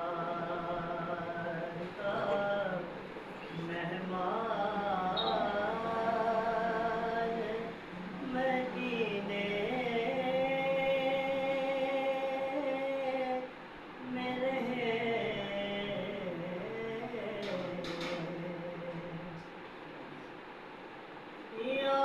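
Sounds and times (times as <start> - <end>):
man singing unaccompanied: 0.0 - 19.5, 21.5 - 22.0.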